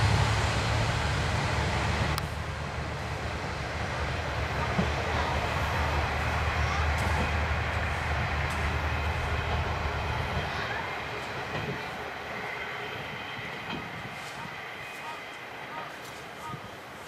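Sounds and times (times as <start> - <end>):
diesel train engine rumble: 0.0 - 17.0
train wheel noise: 0.0 - 17.0.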